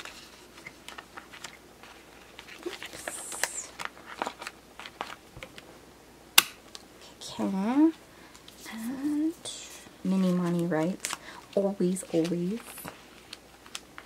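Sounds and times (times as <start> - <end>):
plastic pages crinkling: 0.0 - 5.6, 6.6 - 14.0.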